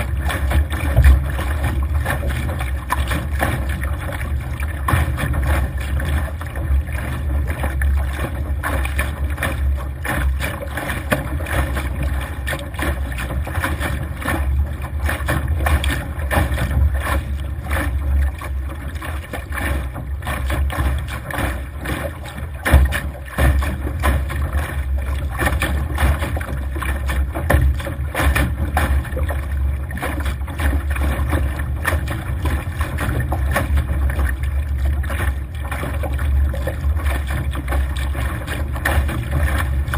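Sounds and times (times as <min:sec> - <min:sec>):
water rushing against hull: 0:00.0 - 0:39.9.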